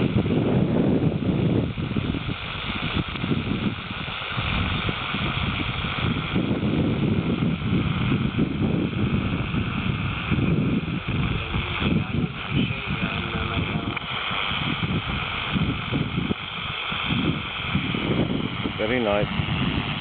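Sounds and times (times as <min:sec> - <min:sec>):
steady hiss: 0:00.0 - 0:20.0
wind buffeting microphone: 0:00.0 - 0:20.0.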